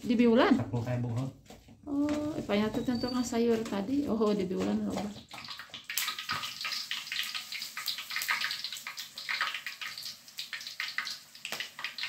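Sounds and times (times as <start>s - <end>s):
batter sizzling in hot oil: 2.3s - 12.0s.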